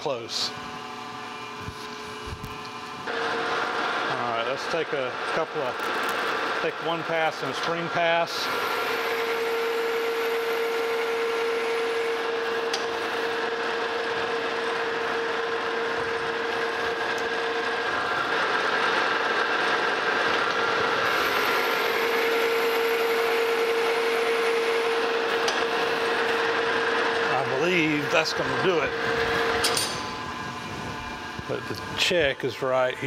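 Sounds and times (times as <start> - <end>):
metal lathe whine: 2.8 - 33.0.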